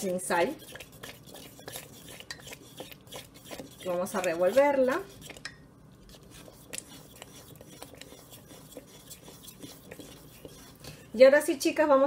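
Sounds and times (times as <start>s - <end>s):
spoon scraping in pudding: 0.0s - 11.1s.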